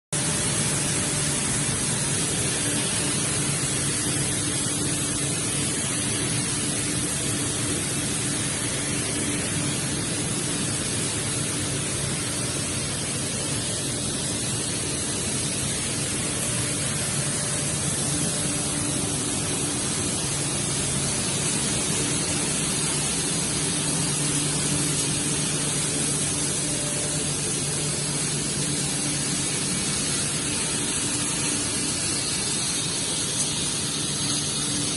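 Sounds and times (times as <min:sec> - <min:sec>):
machine and water noise: 0:00.1 - 0:34.9.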